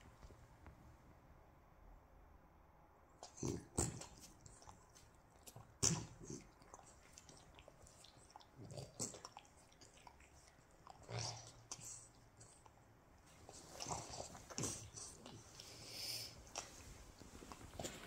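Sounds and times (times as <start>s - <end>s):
dog licking and smacking: 3.2s - 18.0s.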